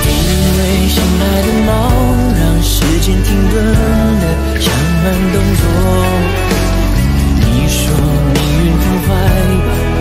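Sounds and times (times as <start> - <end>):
background music melody: 0.0 - 10.0
steady low bass: 0.0 - 10.0.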